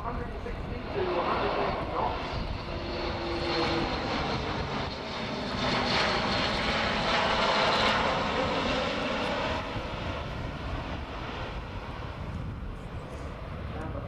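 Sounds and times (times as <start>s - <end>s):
turboprop aircraft flying past: 0.0s - 14.0s.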